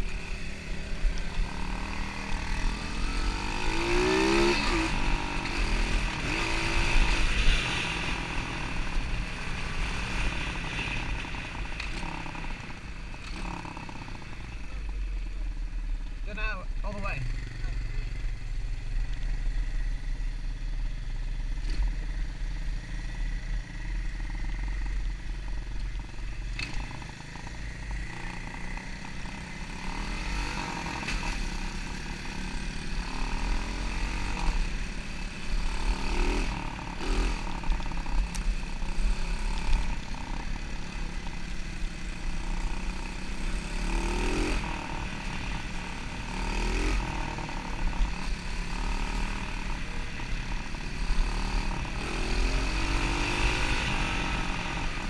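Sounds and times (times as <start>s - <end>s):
dirt bike engine revving: 0.0s - 14.5s, 24.1s - 55.0s
atv engine: 0.0s - 55.0s.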